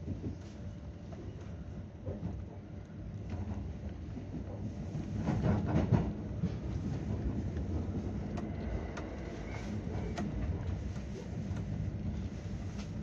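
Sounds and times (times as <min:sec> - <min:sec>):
train clattering: 0:00.0 - 0:13.0
train wheels rumbling on rail: 0:00.0 - 0:13.0.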